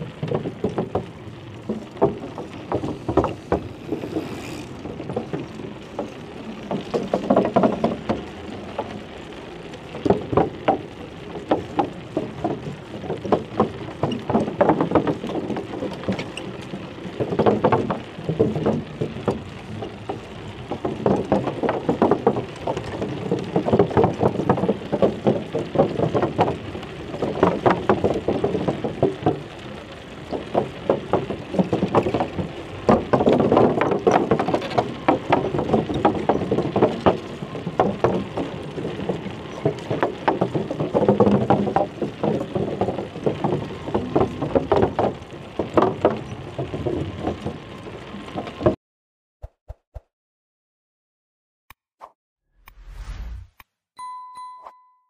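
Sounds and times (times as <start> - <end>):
bicycle rattling on uneven path: 0.0 - 48.8.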